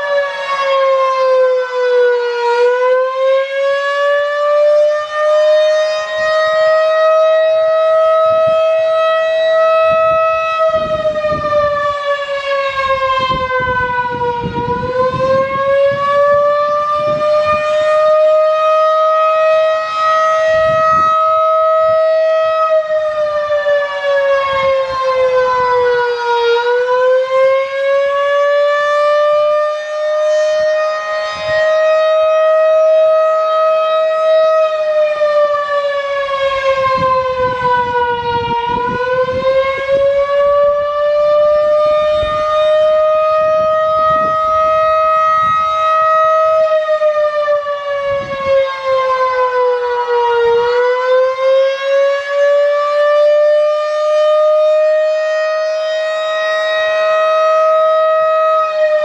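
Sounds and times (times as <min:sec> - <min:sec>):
rotating siren rising and falling: 0:00.0 - 0:59.0.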